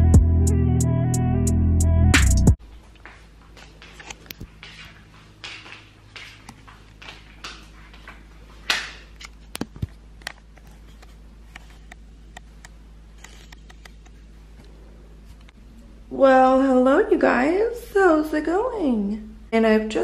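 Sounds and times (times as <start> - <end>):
faint room hum: 2.6 - 20.0.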